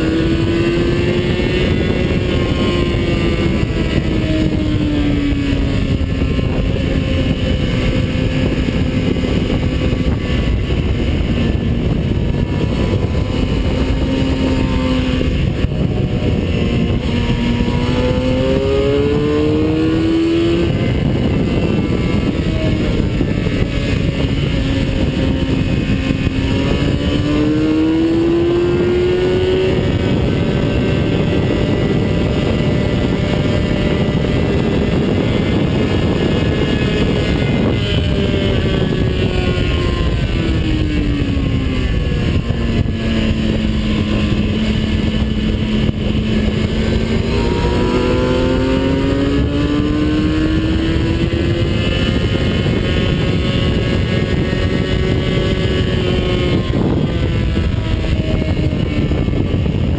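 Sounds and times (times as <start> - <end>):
race car engine revving: 0.0 - 59.9
wind and road rush: 0.0 - 59.9.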